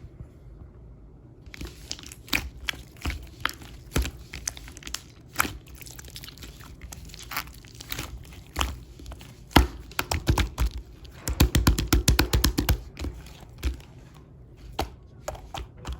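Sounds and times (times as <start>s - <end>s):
crinkling and crunching clicks: 1.5s - 15.9s.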